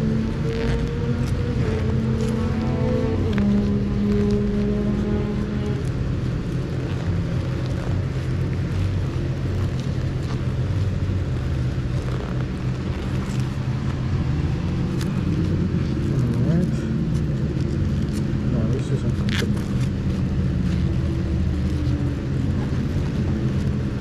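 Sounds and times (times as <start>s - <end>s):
car engine running under load: 0.0s - 24.0s
road and wind noise: 0.0s - 24.0s.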